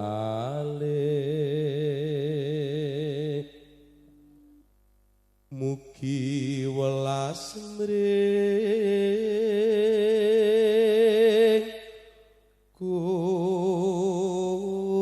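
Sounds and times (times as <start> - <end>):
person singing with wide vibrato: 0.0 - 4.7, 5.5 - 15.0.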